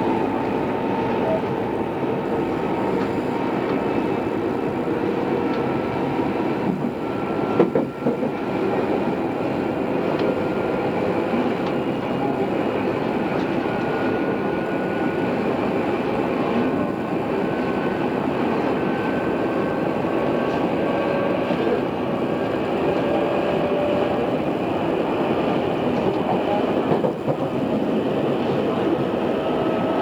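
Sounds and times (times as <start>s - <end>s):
train rolling noise: 0.0s - 30.0s.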